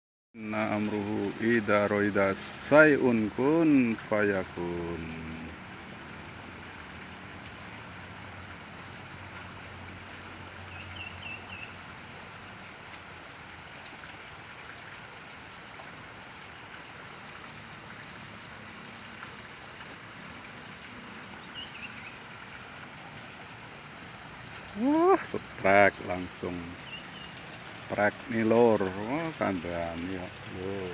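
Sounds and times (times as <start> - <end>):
river water rushing: 0.4 - 30.9.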